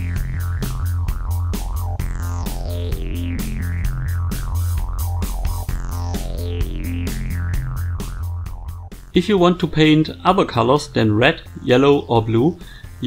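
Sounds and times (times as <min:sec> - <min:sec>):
electronic music with deep bass: 0:00.0 - 0:13.0.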